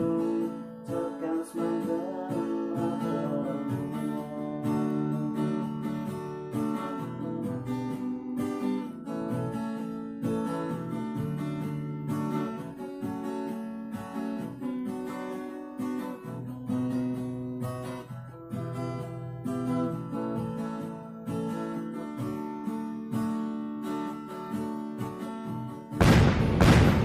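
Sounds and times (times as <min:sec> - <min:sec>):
acoustic guitar fingerstyle: 0:00.0 - 0:26.0.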